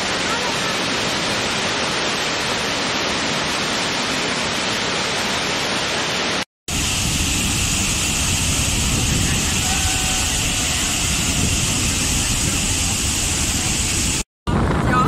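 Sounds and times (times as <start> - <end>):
low rumble of waterfall: 0.0 - 14.2
waterfall rushing: 0.0 - 14.2.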